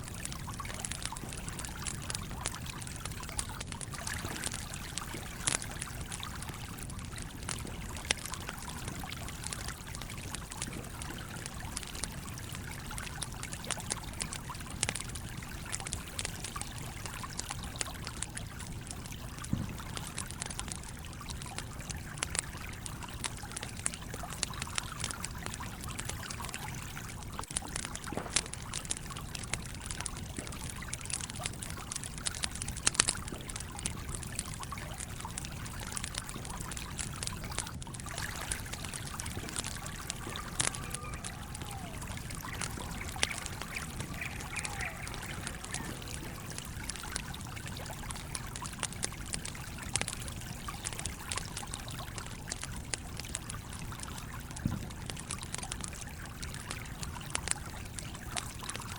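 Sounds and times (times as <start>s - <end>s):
stream flowing: 0.0s - 20.5s, 23.8s - 54.3s
campfire crackling and popping: 0.0s - 58.9s.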